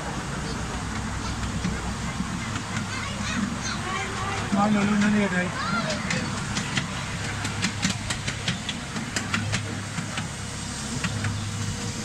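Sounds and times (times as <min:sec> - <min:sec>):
train running rumble: 0:00.0 - 0:12.0
wheels clicking and rattling: 0:00.0 - 0:12.0.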